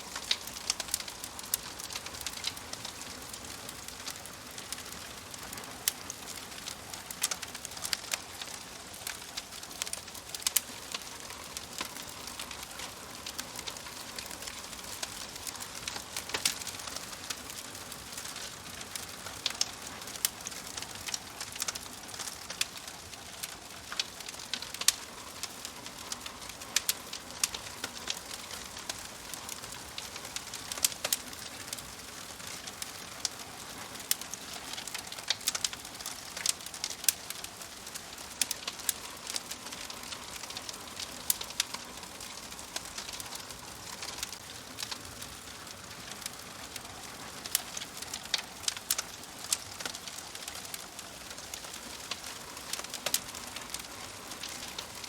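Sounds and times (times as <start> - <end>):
fire snaps and pops: 0.0 - 55.0
wood fire crackling: 0.0 - 55.0.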